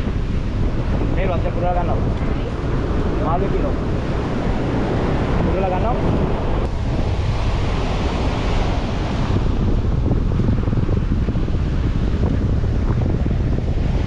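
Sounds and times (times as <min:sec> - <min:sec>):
sea waves washing: 0:00.0 - 0:14.0
wind buffeting microphone: 0:00.0 - 0:14.0.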